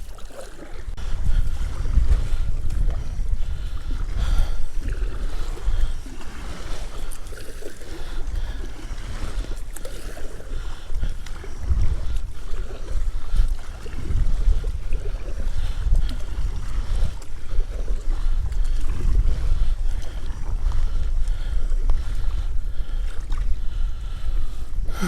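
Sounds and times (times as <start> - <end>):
water sloshing from paddling: 0.0 - 25.0
wind buffeting microphone: 0.0 - 25.0.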